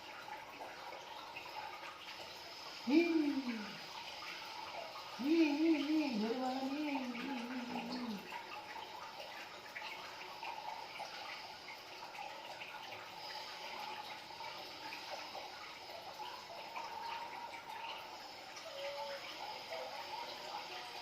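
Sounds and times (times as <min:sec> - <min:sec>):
small water drips: 0:00.0 - 0:21.0
water trickling and splashing: 0:00.0 - 0:21.0.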